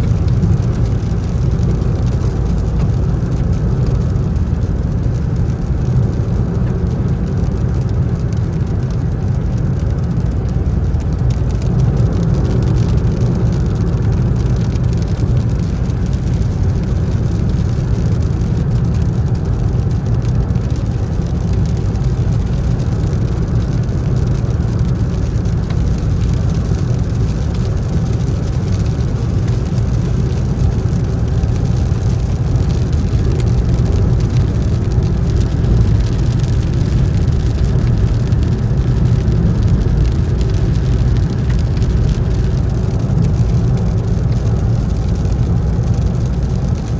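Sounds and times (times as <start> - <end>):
car cabin road and engine rumble: 0.0 - 46.9
rain pattering on car: 0.0 - 46.9.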